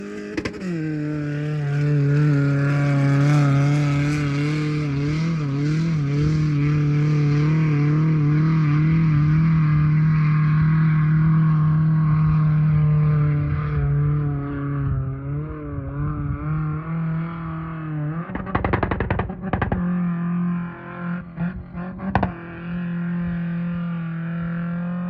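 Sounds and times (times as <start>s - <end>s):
car engine at steady revs: 0.0s - 25.0s.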